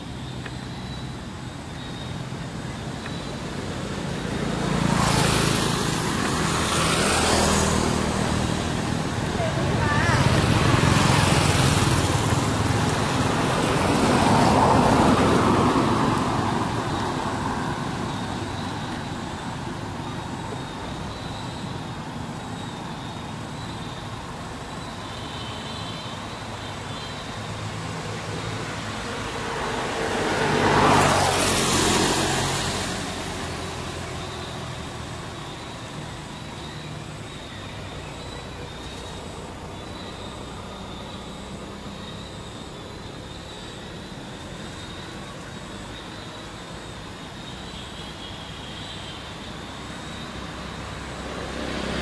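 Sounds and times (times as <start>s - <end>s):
vehicles passing by: 0.0s - 52.0s.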